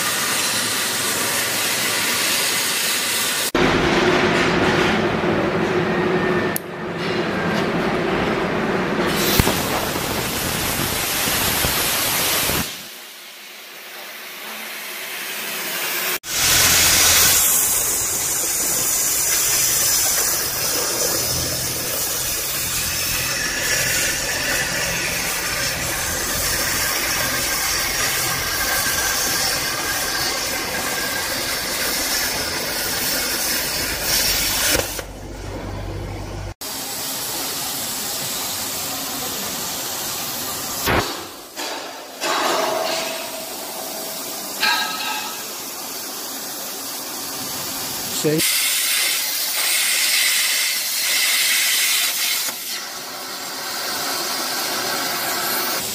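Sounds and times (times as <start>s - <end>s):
plasma cutting torch hissing: 0.0s - 3.6s, 9.0s - 35.1s, 36.6s - 55.9s.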